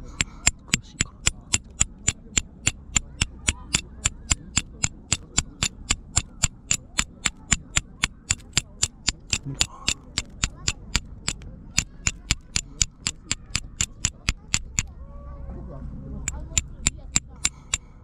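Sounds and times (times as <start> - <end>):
fire striker clicking on stone: 0.0 - 14.9, 16.2 - 18.0.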